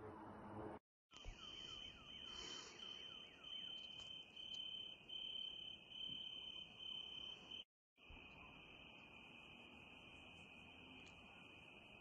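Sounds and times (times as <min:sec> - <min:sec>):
crickets trilling: 0:01.2 - 0:12.0.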